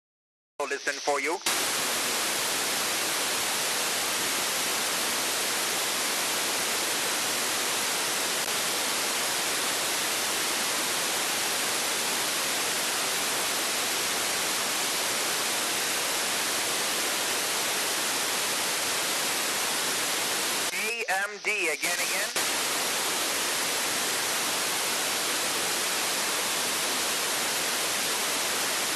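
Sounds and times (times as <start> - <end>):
radio static hiss: 0.6 - 28.9.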